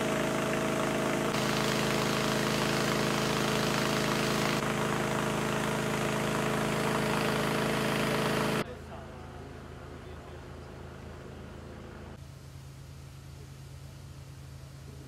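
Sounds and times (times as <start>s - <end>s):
steady mechanical drone: 0.0s - 12.2s.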